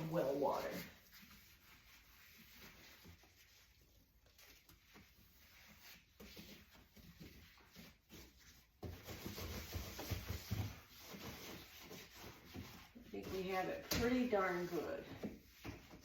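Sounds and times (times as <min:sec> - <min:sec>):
hand scrubbing in dishwasher: 0:00.0 - 0:16.0.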